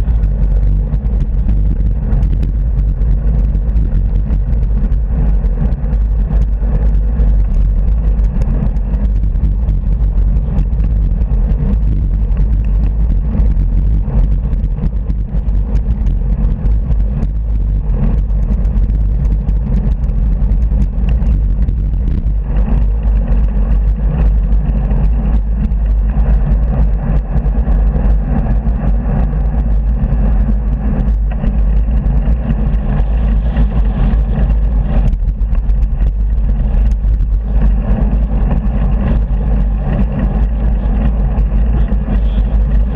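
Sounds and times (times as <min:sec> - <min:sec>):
wind rumble on microphone: 0:00.0 - 0:42.9.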